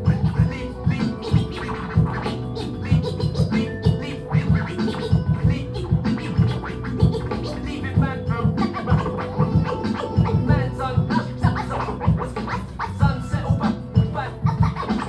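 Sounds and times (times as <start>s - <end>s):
hip hop drum beat: 0.0s - 15.0s
record scratching: 0.0s - 15.0s.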